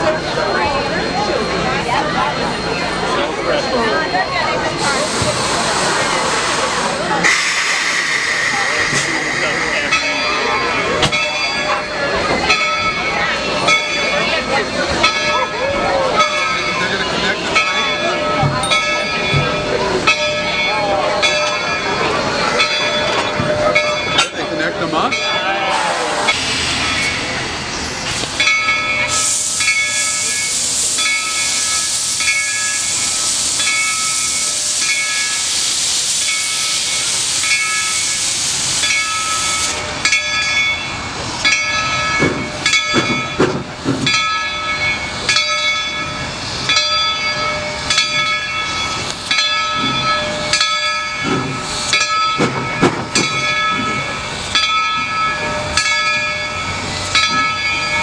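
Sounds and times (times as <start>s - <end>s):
locomotive bell ringing: 0.0s - 5.5s, 6.6s - 58.0s
steam locomotive venting steam: 0.0s - 58.0s.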